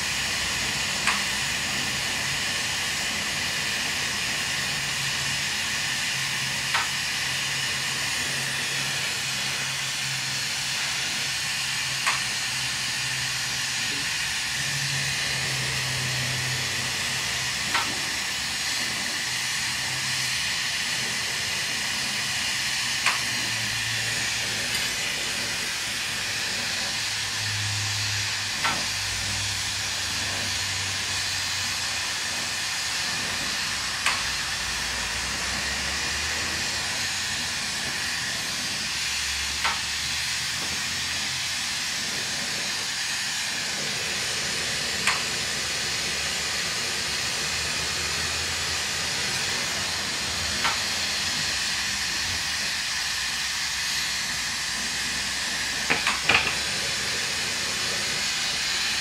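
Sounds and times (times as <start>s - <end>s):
torch flame hissing: 0.0s - 59.0s.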